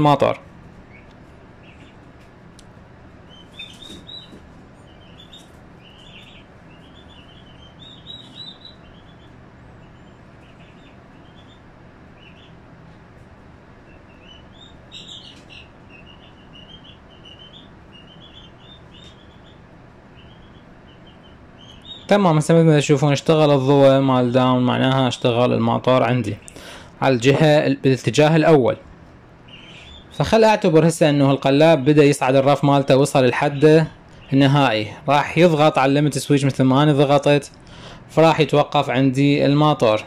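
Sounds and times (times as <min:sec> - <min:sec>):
faint low hum: 0:00.0 - 0:40.0
small birds chirping: 0:00.0 - 0:40.0.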